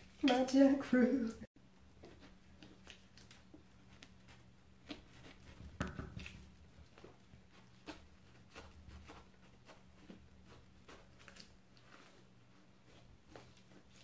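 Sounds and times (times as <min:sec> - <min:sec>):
knife cutting fruit rind: 0:01.9 - 0:14.0.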